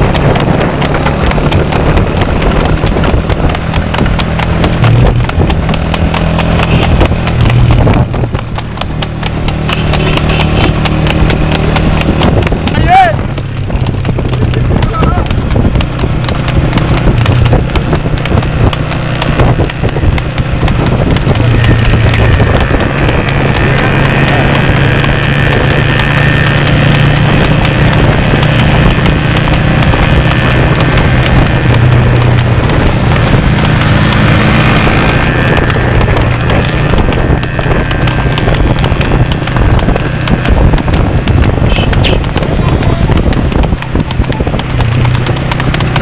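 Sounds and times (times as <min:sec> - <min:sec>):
horse hooves clip-clopping on pavement: 0:00.0 - 0:46.0.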